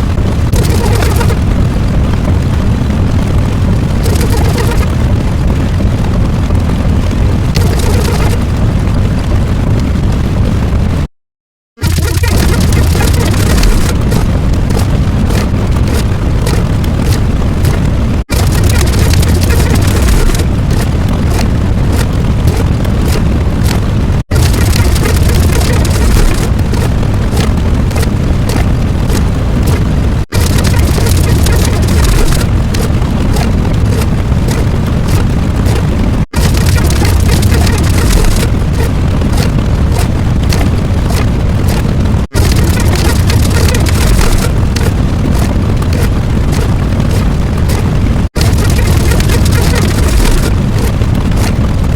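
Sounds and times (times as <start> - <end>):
deep rumbling: 0.0 - 11.1, 11.8 - 51.9
loud bass-heavy booming: 0.0 - 11.1, 11.8 - 51.9.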